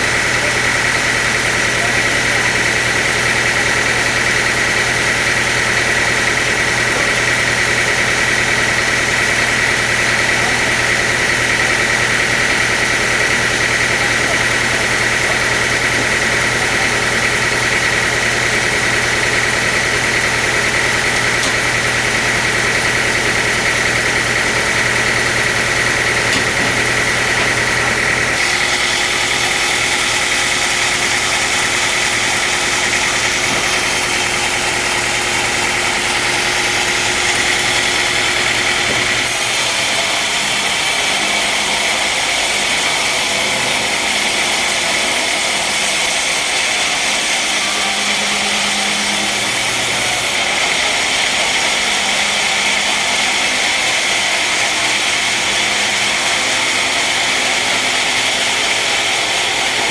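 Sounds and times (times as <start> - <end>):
sawmill machinery whining hum: 0.0 - 59.9.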